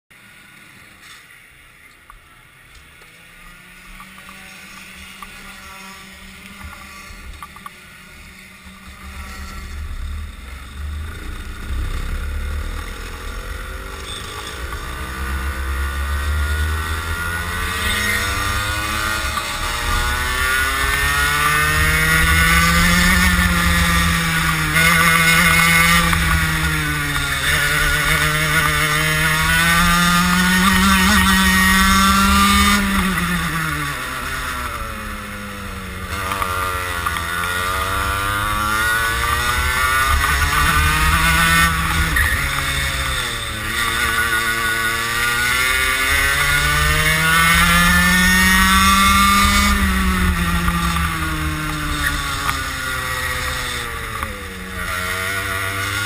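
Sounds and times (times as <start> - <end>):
kart engine revving: 3.0 - 56.0.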